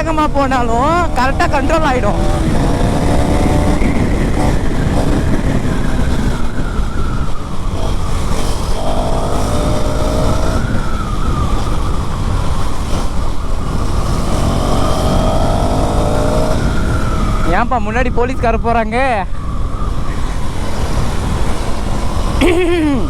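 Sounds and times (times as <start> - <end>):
motorcycle engine at speed: 0.0 - 18.7, 19.3 - 23.0
wind rumble: 0.0 - 23.0.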